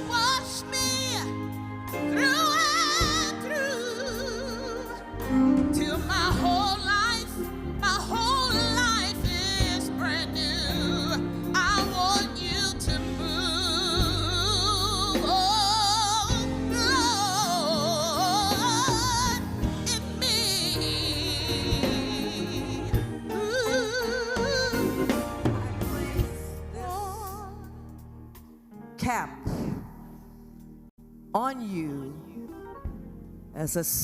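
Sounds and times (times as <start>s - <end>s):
gospel singing with vibrato: 0.0s - 28.3s
sustained instrumental accompaniment: 0.0s - 29.0s.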